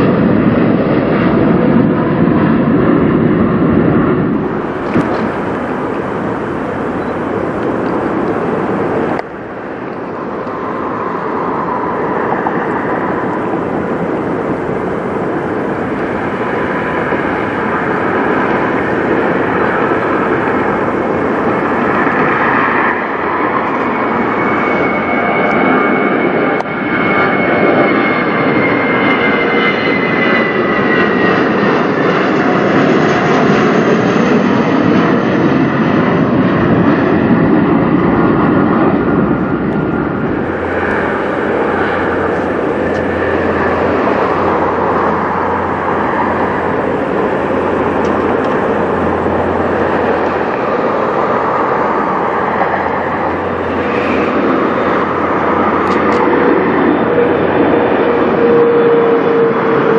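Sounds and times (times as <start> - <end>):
jet airliner taking off: 0.0 - 59.9
low hum: 0.0 - 59.9.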